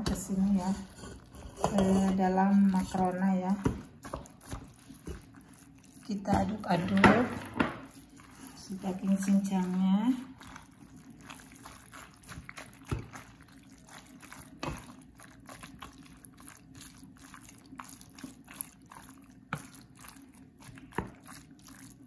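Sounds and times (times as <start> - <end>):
wet squelching of stirred pasta: 0.0 - 22.0.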